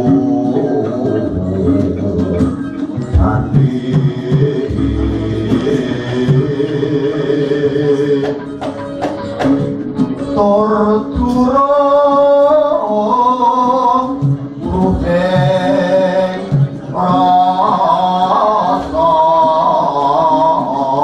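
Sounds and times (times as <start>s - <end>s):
solo voice singing: 0.0s - 8.7s, 10.2s - 21.0s
gamelan ensemble playing: 0.0s - 21.0s.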